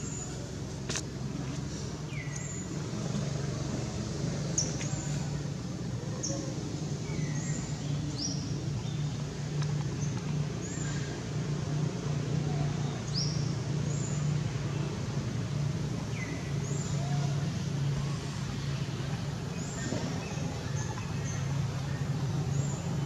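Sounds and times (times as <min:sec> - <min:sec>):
road traffic hum: 0:00.0 - 0:23.0.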